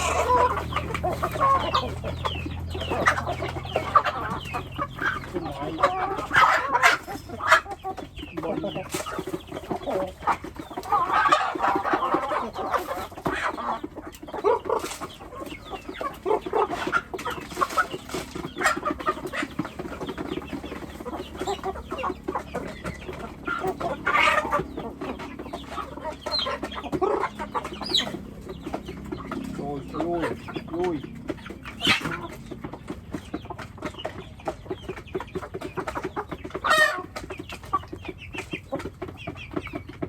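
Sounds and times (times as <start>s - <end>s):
chickens clucking: 0.0s - 40.0s.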